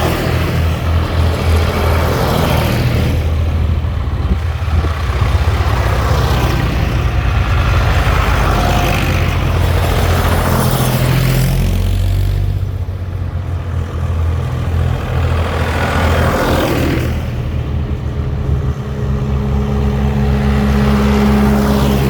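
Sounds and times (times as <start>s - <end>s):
tractor engines driving past: 0.0s - 22.0s.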